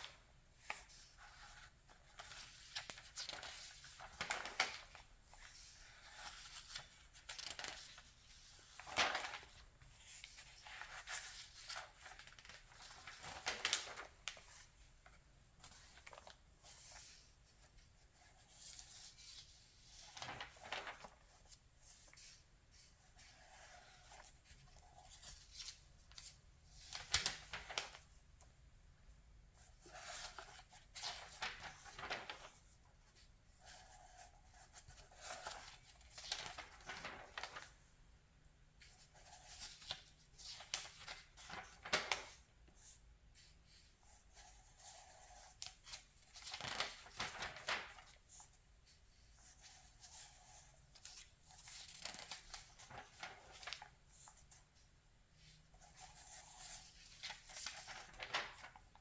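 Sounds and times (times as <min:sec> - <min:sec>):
magazine pages turning: 0:00.0 - 0:17.3, 0:18.4 - 0:28.5, 0:29.6 - 0:37.9, 0:38.8 - 0:43.5, 0:44.4 - 0:48.6, 0:49.4 - 0:54.6, 0:55.4 - 0:59.0
paper handling: 0:00.0 - 0:28.5, 0:29.6 - 0:37.9, 0:38.8 - 0:43.8, 0:44.4 - 0:48.6, 0:49.2 - 0:59.0.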